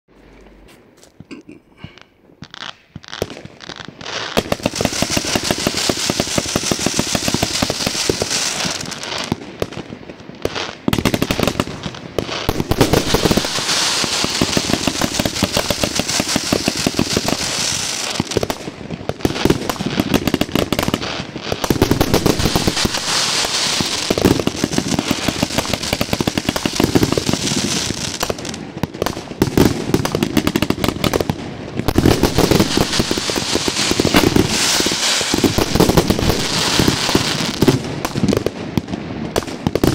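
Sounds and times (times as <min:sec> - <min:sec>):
fireworks crackling: 0:00.9 - 0:39.9
fireworks shots firing: 0:02.9 - 0:39.9.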